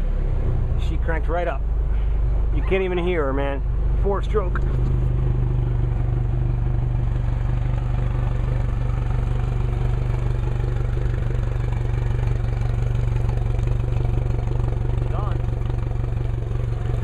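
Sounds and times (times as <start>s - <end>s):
outboard motor idling: 1.8s - 17.0s.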